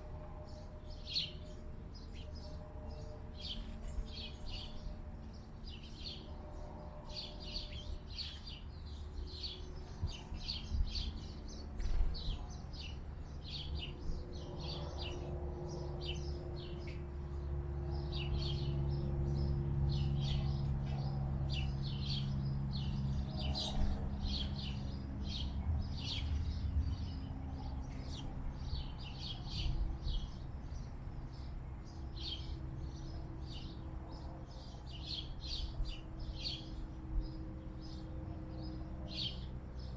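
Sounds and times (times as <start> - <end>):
low steady hum: 0.0 - 39.9
small birds chirping: 0.0 - 39.9.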